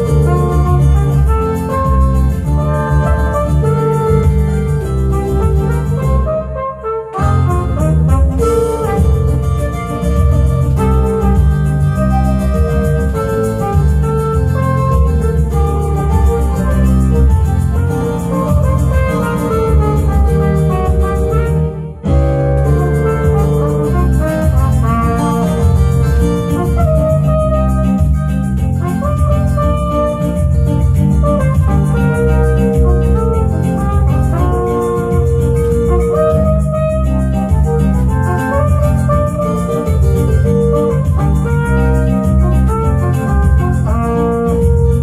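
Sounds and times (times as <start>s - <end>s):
organ-like keyboard backing: 0.0s - 45.0s
trumpet playing slow melody: 0.0s - 45.0s.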